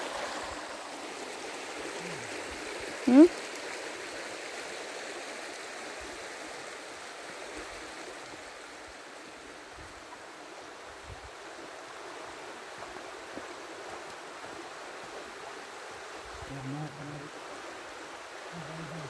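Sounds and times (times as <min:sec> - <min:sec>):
stream running over stones: 0:00.0 - 0:19.0.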